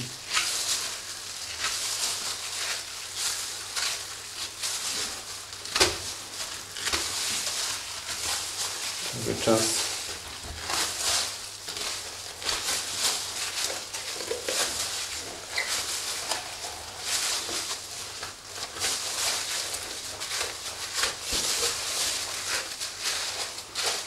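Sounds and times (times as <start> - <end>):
plastic gloves rustling: 0.0 - 24.0.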